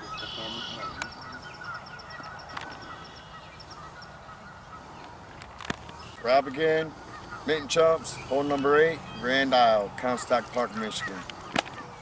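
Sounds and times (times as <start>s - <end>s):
distant geese honking: 0.0s - 12.0s
small birds trilling: 0.0s - 12.0s.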